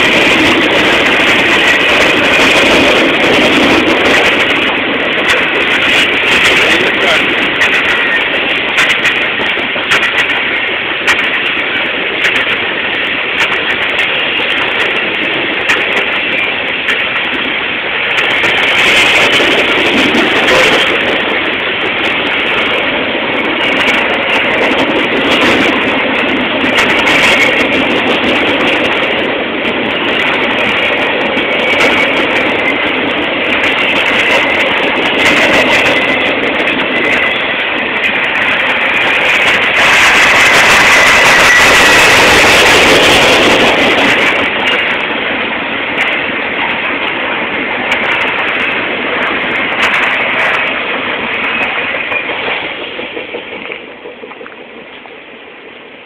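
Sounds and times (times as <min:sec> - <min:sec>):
train wheels rumbling on rails: 0:00.0 - 0:56.0
wheels clicking over track: 0:00.0 - 0:56.0.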